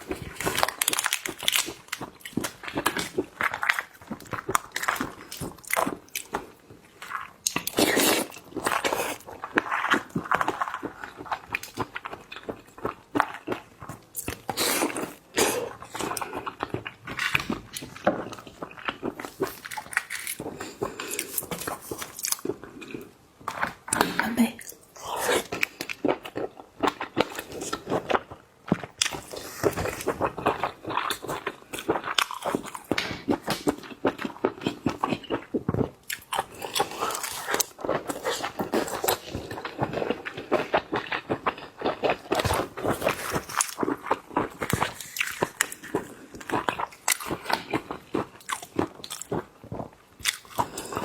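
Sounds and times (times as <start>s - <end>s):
food crunching: 0.0s - 51.0s
person chewing seafood: 0.0s - 51.0s.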